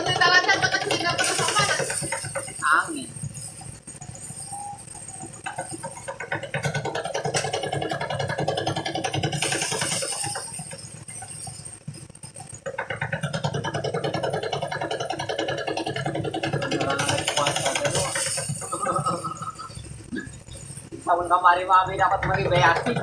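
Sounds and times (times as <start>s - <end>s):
threshing machine engine running: 0.0s - 4.2s, 5.2s - 23.0s.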